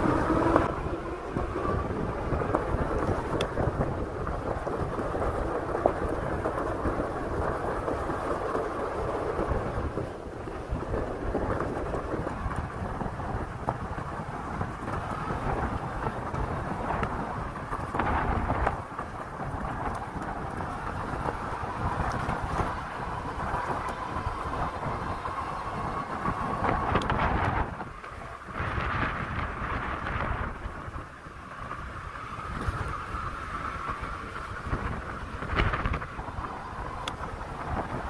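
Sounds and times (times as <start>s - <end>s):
tyres rolling over gravel: 0.0s - 38.0s
wind noise on microphone: 0.0s - 38.0s.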